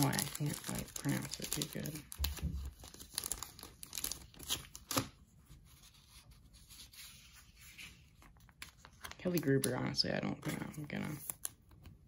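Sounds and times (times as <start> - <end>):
cards and wrapper rustling: 0.0 - 12.0.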